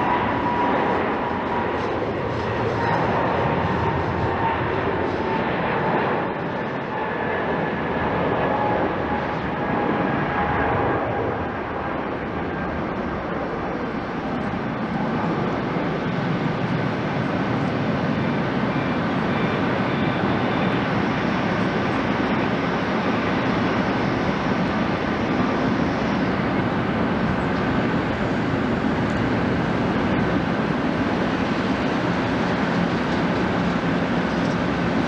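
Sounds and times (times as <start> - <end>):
jet engines running: 0.0 - 35.0.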